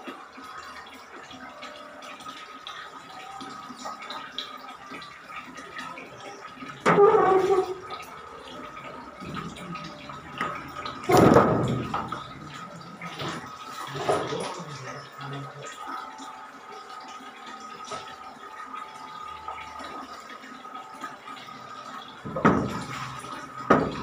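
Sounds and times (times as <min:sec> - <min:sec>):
water bubbling and trickling: 0:00.0 - 0:24.0.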